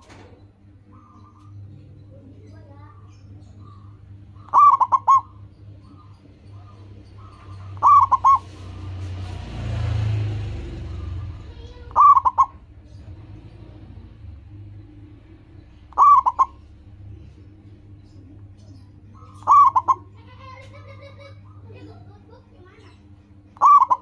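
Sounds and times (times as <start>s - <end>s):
dove cooing: 0.0s - 24.0s
small bird calls: 0.0s - 24.0s.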